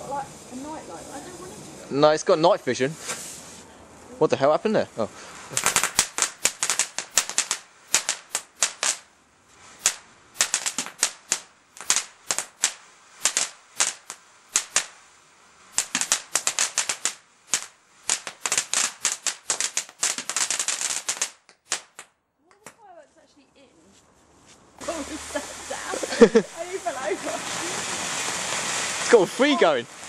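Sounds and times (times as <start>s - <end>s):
firework fountain crackling: 0.0s - 30.0s.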